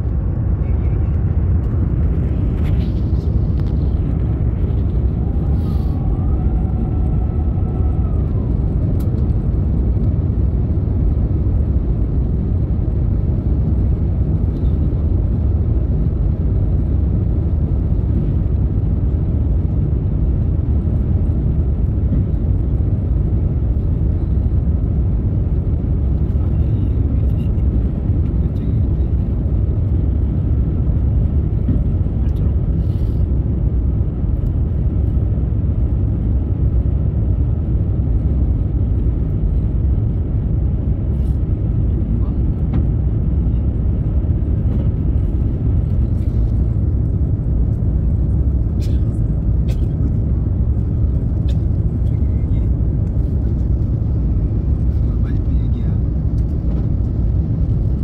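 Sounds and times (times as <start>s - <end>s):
airliner engines rumbling: 0.0s - 58.0s.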